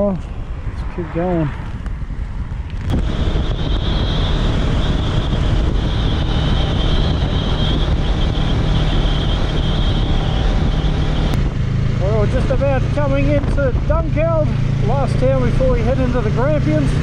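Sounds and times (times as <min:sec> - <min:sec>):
motorcycle engine drone: 0:00.0 - 0:17.0
wind rushing over microphone: 0:00.0 - 0:17.0.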